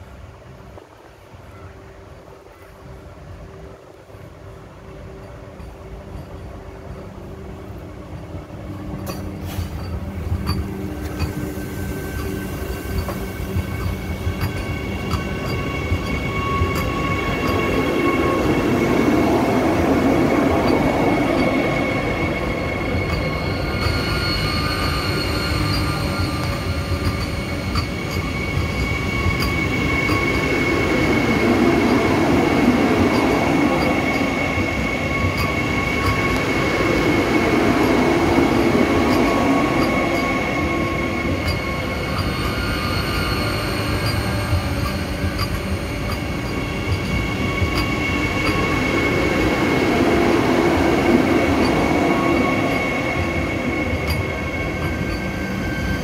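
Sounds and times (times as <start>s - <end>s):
train wheels rumbling over rails: 0.0s - 56.0s
steady high-pitched tone: 3.5s - 56.0s.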